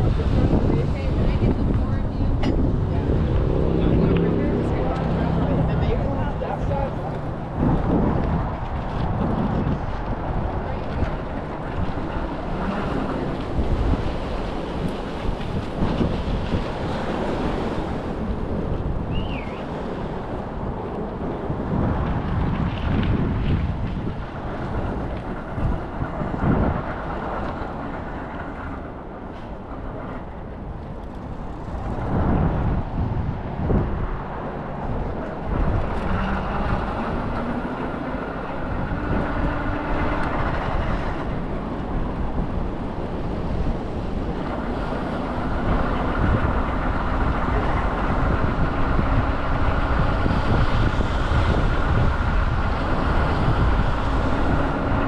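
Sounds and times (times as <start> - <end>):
motor vehicle rumble: 0.0 - 55.0
wind on microphone: 0.0 - 55.0.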